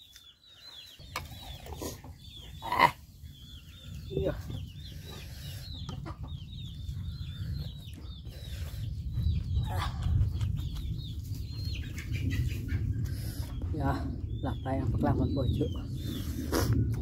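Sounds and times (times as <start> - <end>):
chickens calling: 0.0 - 17.0
steady low rumble: 1.1 - 17.0.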